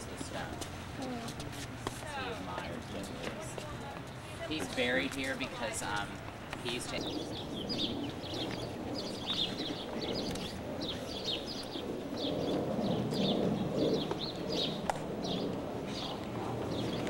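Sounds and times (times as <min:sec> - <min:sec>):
low murmur: 0:00.0 - 0:17.0
small birds chirping: 0:02.2 - 0:17.0.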